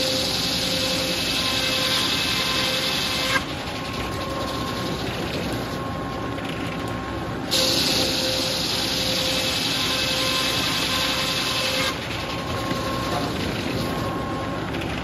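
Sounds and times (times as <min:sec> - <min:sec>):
saw blade spinning free whine: 0:00.0 - 0:06.0, 0:07.5 - 0:14.2.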